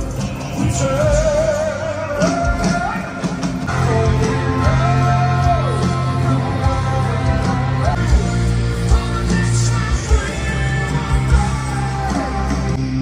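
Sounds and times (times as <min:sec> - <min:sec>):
drums: 0:00.0 - 0:13.0.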